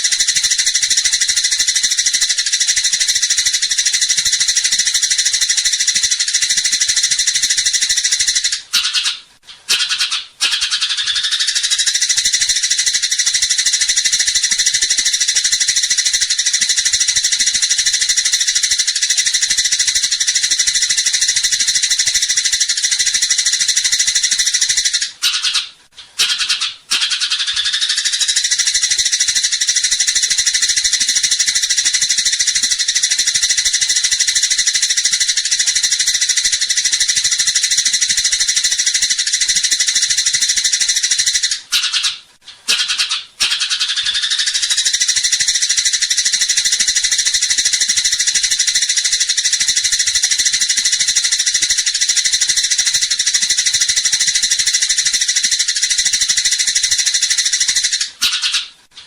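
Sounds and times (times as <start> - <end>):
sparrows chattering: 0.0 - 58.8.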